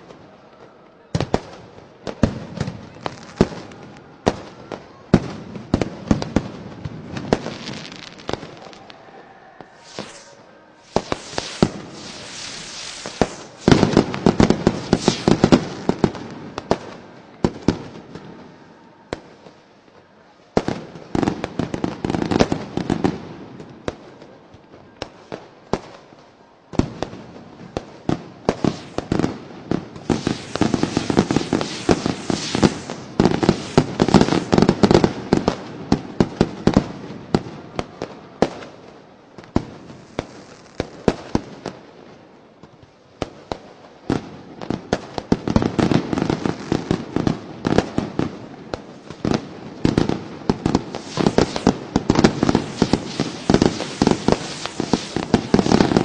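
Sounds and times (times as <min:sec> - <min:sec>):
fireworks bangs and pops: 0:01.2 - 0:08.9, 0:09.8 - 0:18.4, 0:20.6 - 0:24.3, 0:25.0 - 0:41.8, 0:43.2 - 0:56.0
firecracker crackling volleys: 0:01.2 - 0:18.5, 0:20.6 - 0:24.4, 0:25.0 - 0:42.3, 0:43.2 - 0:56.0.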